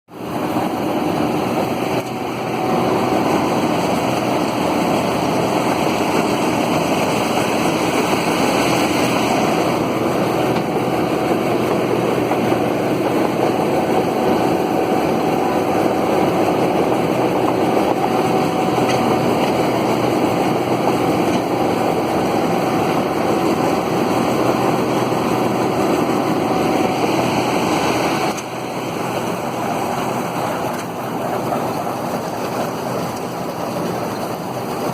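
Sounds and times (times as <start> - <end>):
combine harvester running: 0.1 - 34.9.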